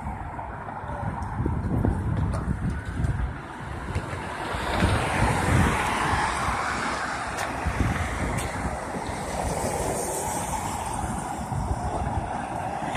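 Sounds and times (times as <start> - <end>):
passing street traffic: 0.0 - 12.9
wind buffeting microphone: 0.0 - 12.9.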